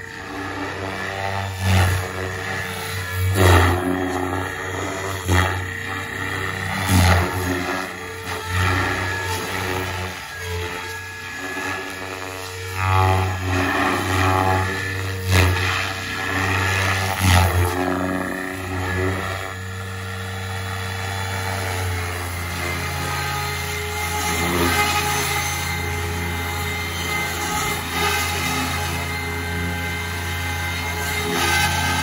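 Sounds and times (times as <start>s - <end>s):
rc helicopter rotor drone: 0.0s - 32.0s.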